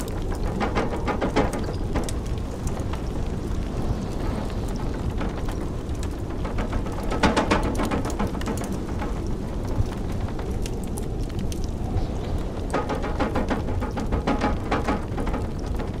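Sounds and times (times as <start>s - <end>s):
blizzard wind rumble: 0.0s - 16.0s
wood fire crackling and popping: 0.0s - 16.0s.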